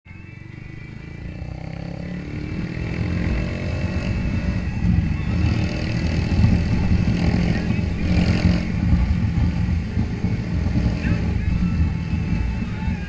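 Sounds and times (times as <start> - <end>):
motorcycle engine accelerating: 0.2 - 13.0.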